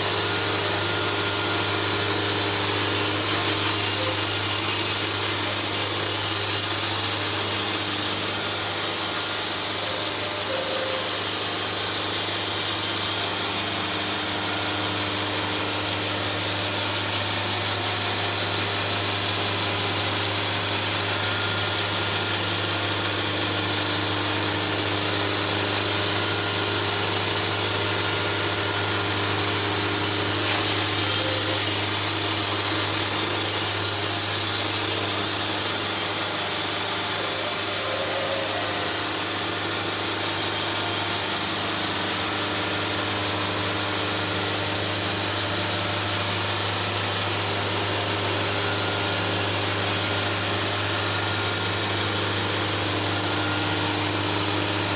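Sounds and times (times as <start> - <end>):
saw blade hissing in wood: 0.0 - 54.9
sawmill engine running: 0.0 - 54.9.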